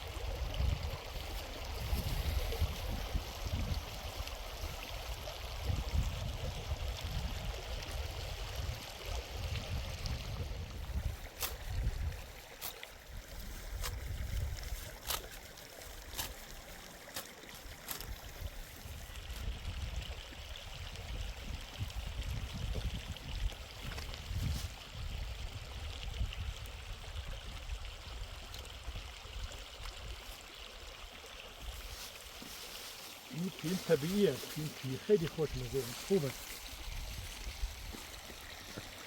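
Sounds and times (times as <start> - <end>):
stream flowing: 0.0 - 39.0.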